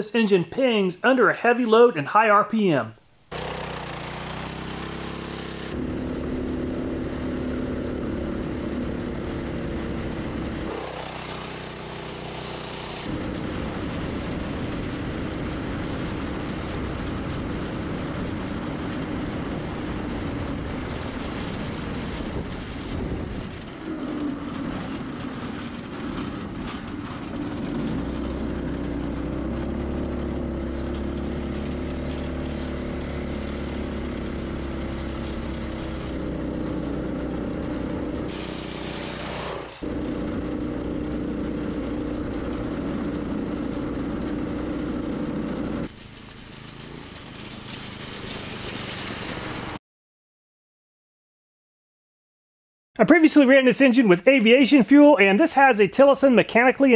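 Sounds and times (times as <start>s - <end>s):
go-kart engine at high rpm: 3.3s - 49.8s.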